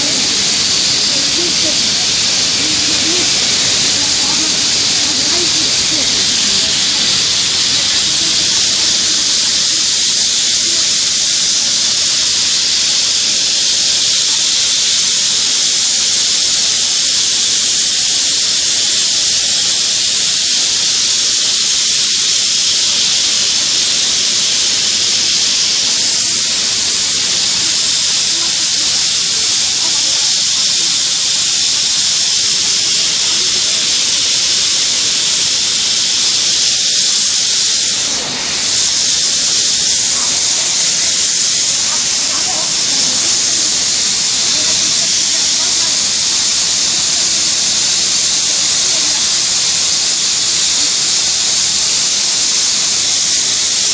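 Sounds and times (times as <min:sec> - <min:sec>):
pressurised gas hissing: 0:00.0 - 0:53.9.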